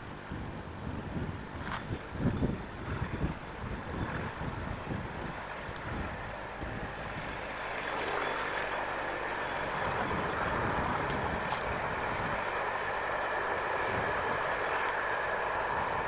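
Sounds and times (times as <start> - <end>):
diesel locomotive engine drone: 0.0 - 16.0
rail noise: 0.0 - 16.0
wind buffeting microphone: 0.0 - 16.0.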